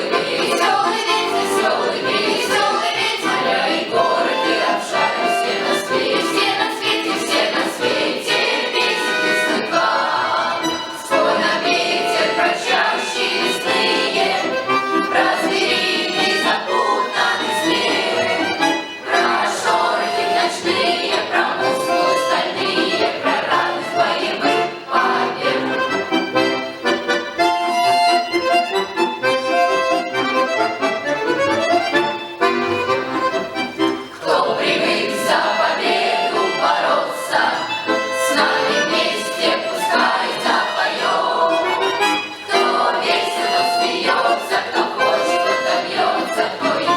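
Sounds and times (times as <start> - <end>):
accordion playing lively melody: 0.0 - 46.9.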